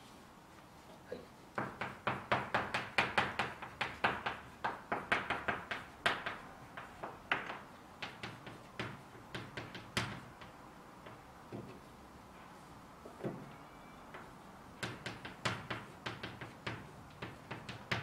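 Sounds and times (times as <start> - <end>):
chalk tapping and scraping: 1.5 - 13.5, 14.1 - 18.0.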